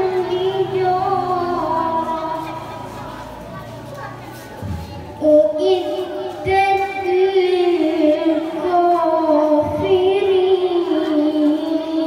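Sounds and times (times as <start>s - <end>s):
woman chanting melodically: 0.0s - 12.0s.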